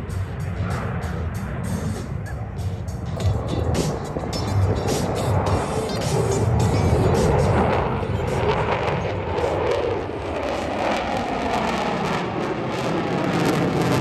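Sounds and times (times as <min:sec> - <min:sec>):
jet flying overhead: 0:00.0 - 0:14.0.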